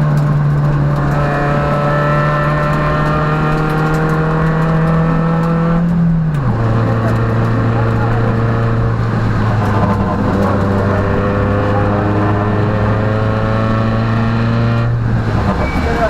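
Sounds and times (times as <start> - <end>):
rally car engine revving high: 0.0 - 16.0.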